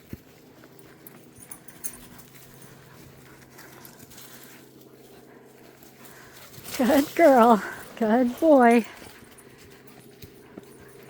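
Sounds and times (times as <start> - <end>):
dog panting: 0.5 - 11.0.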